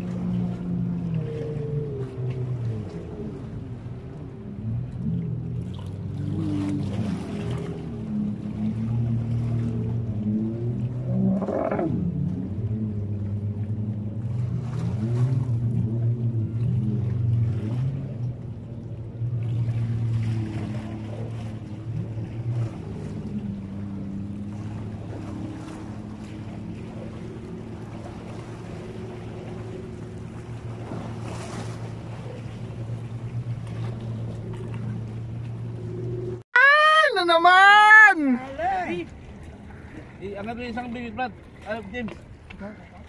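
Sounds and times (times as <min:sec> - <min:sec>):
boat engine droning: 0:00.0 - 0:43.0
waves: 0:00.0 - 0:43.0
wind: 0:00.0 - 0:43.0.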